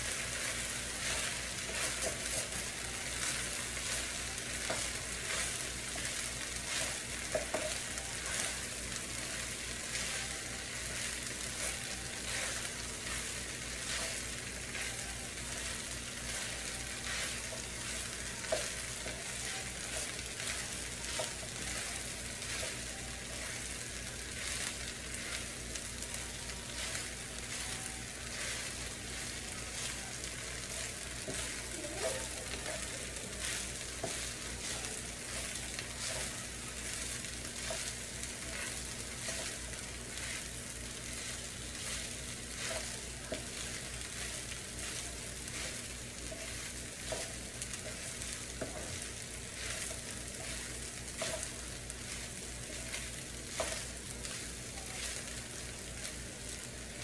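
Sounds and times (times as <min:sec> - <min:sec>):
wooden spatula scraping: 0:00.0 - 0:56.5
rice sizzling in a skillet: 0:00.0 - 0:57.0.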